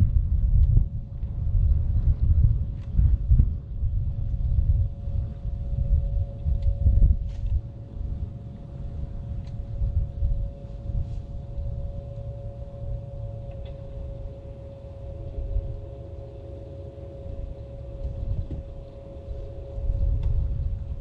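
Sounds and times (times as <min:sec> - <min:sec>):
wind buffeting microphone: 0:00.0 - 0:21.0
electric trolling motor hum: 0:04.0 - 0:21.0.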